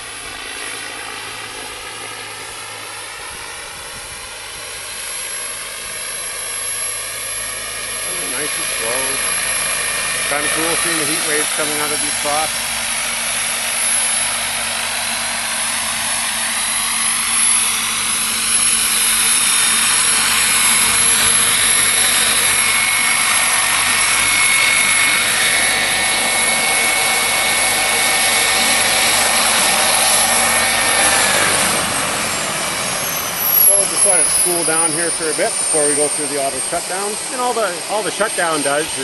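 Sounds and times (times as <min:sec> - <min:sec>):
helicopter rotor noise: 0:00.0 - 0:39.0
high-pitched turbine whine: 0:00.0 - 0:39.0.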